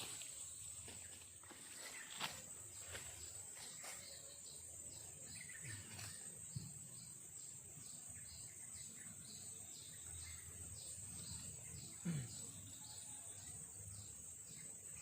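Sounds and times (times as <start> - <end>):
insects droning high: 0.0 - 15.0.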